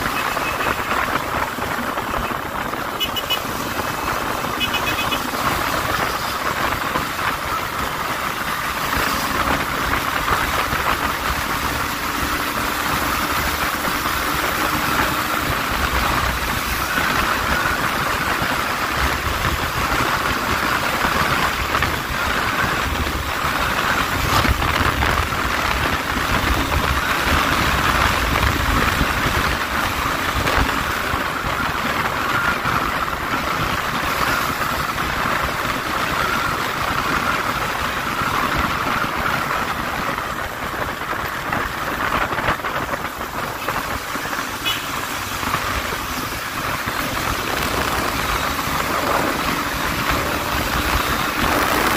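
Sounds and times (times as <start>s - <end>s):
road noise: 0.0s - 51.9s
wind rush: 0.0s - 51.9s.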